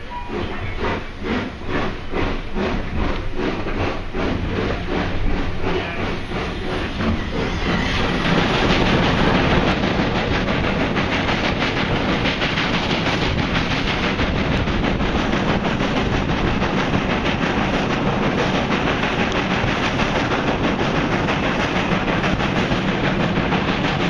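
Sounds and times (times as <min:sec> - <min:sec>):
passenger train rumbling and rattling: 0:00.0 - 0:24.0.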